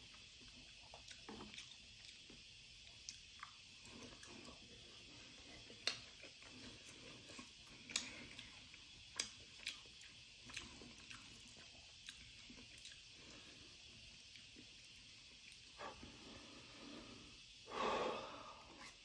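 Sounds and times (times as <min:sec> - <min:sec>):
wet chewing of noodles: 0:00.0 - 0:17.4.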